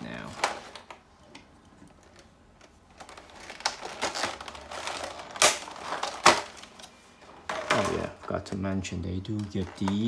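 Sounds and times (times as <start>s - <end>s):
sharp plastic cracks: 0.2s - 10.0s
plastic packaging crinkling: 1.8s - 10.0s.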